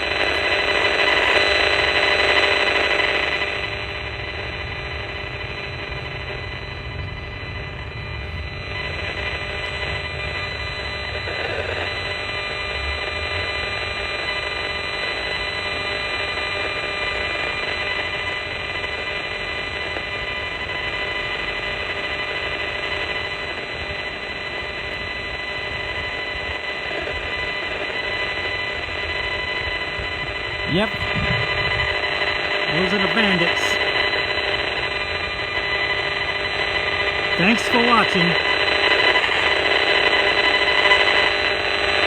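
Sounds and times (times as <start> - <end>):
buzzing static with tones: 0.0 - 42.0.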